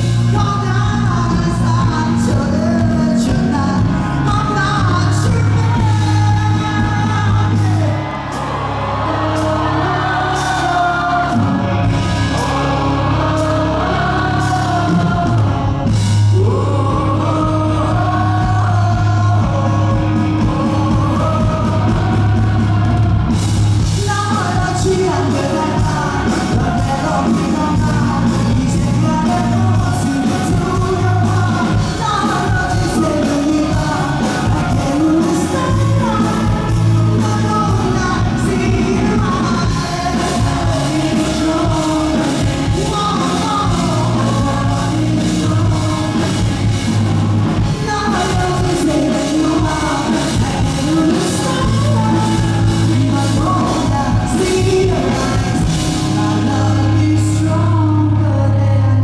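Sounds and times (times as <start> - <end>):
lead singer singing: 0.0 - 59.0
live rock band: 0.0 - 59.0.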